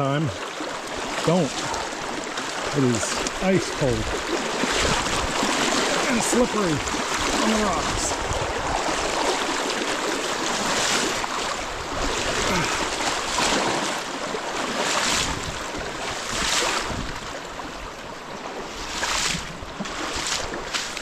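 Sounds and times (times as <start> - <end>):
rushing creek water: 0.0 - 21.0
splashes of wading: 0.0 - 21.0.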